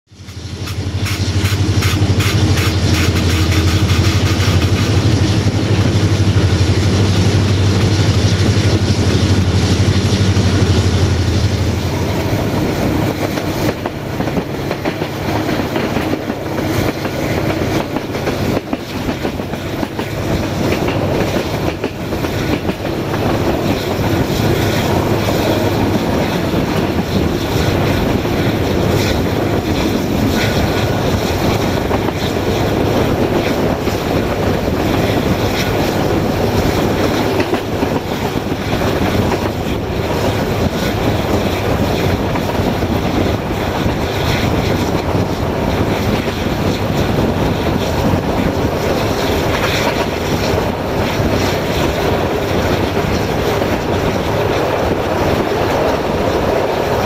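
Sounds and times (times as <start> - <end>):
diesel locomotive engine drone: 0.1 - 57.0
rushing air: 0.1 - 57.0
wheels clicking over rails: 0.6 - 57.0.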